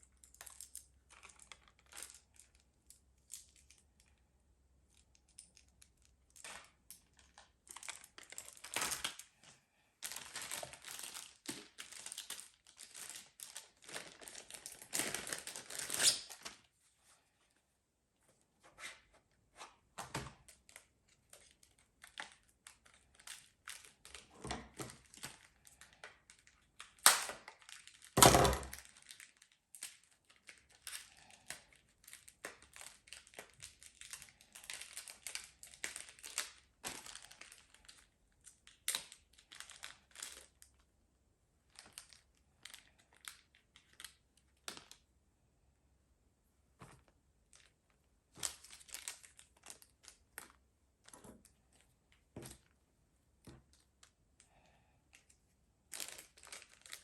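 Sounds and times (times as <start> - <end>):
crinkling and rustling material: 0.0 - 40.9, 41.6 - 45.0, 46.7 - 54.5, 55.1 - 57.0.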